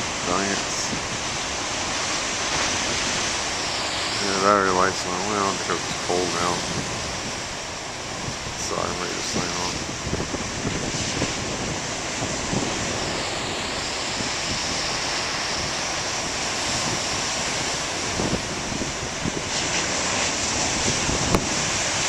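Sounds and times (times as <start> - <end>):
waves breaking: 0.0 - 22.0
wind buffeting microphone: 0.0 - 22.0.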